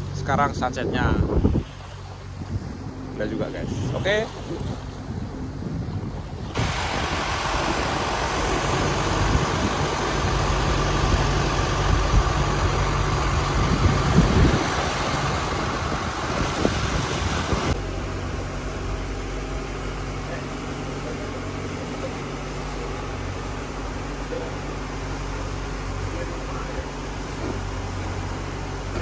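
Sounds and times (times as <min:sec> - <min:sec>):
boat engine drone: 0:00.0 - 0:29.0
rushing wake water: 0:00.0 - 0:29.0
wind: 0:00.0 - 0:29.0.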